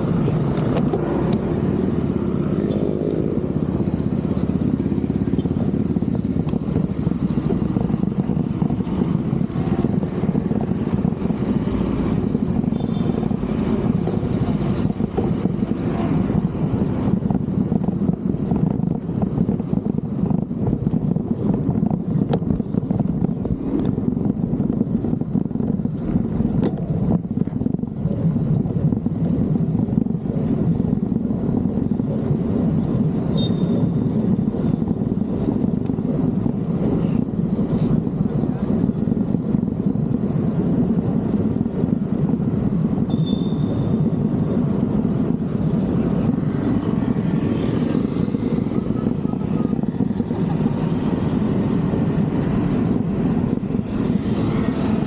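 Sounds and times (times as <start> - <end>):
motor traffic: 0.0 - 55.0
wind rushing on microphone: 0.0 - 55.0.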